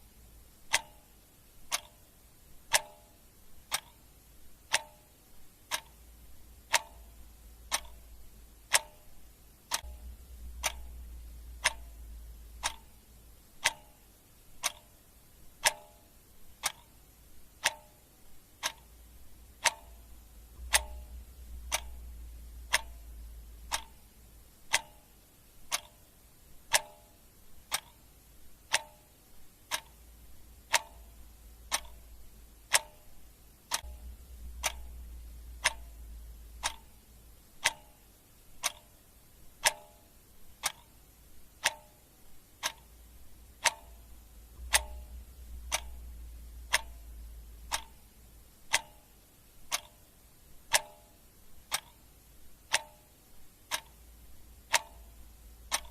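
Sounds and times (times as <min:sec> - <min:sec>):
clock ticking: 0:00.0 - 0:55.9
faint low rumble: 0:00.0 - 0:55.9.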